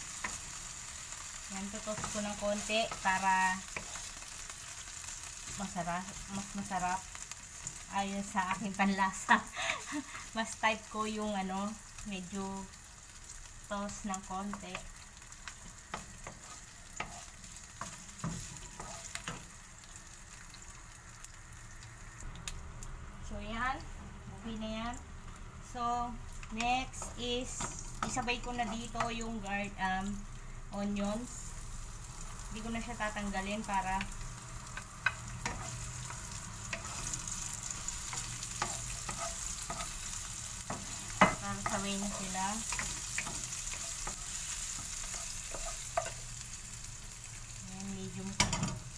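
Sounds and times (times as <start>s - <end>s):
chorizo sizzling in a frying pan: 0.0s - 48.9s.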